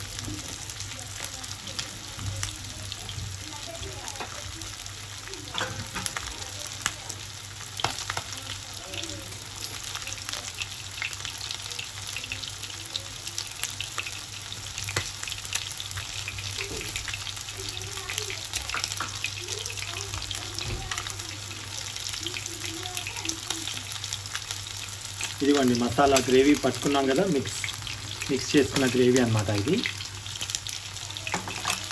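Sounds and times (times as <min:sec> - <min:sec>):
chicken sizzling in hot oil: 0:00.0 - 0:31.9
oil crackles and pops: 0:00.0 - 0:31.9.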